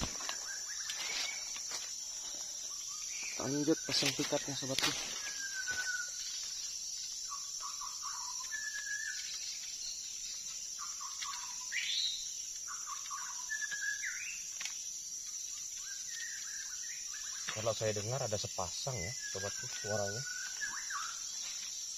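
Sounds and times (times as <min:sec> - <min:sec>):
high insect drone: 0:00.0 - 0:21.9.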